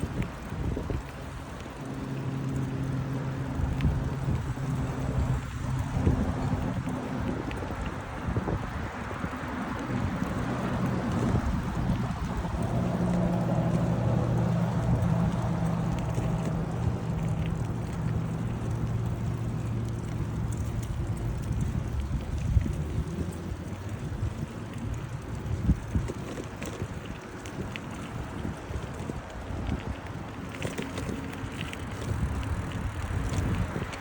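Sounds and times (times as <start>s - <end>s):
vehicle engine humming: 0.0s - 34.0s
wind on microphone: 0.0s - 34.0s.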